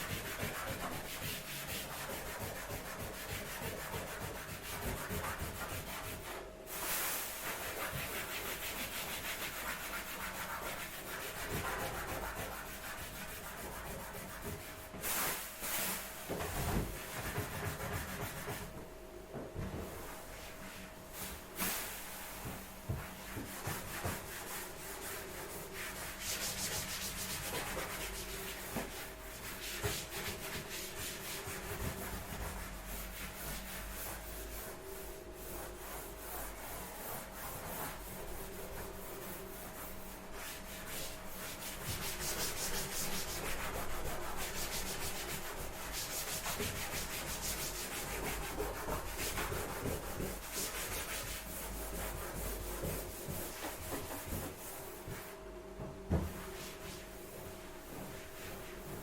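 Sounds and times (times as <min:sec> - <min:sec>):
scratchy rubbing strokes: 0:00.0 - 0:18.7, 0:20.1 - 0:55.4, 0:56.4 - 0:59.0.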